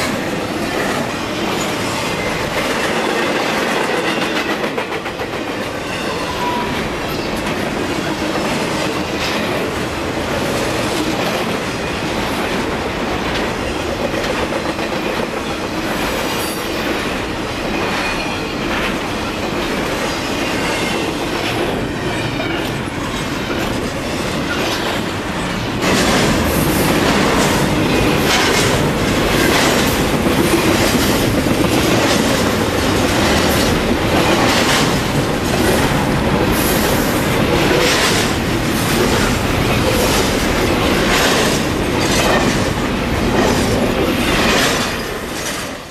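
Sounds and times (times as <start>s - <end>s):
train wheels clacking over rail joints: 0.0s - 45.9s.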